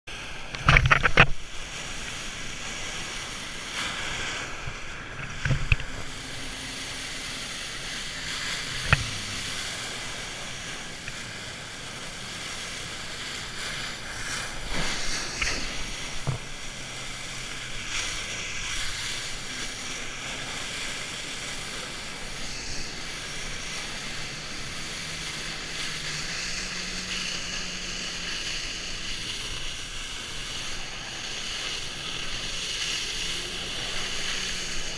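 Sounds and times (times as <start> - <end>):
rushing water spray: 0.1 - 34.9
watercraft engine running: 0.1 - 34.9.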